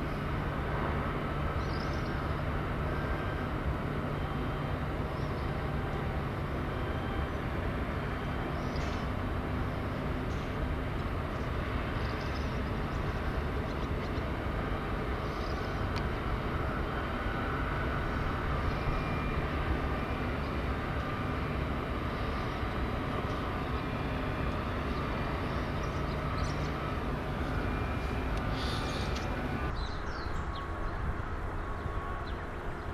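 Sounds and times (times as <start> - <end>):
distant town rumble: 0.0 - 32.9
low hum: 0.0 - 32.9.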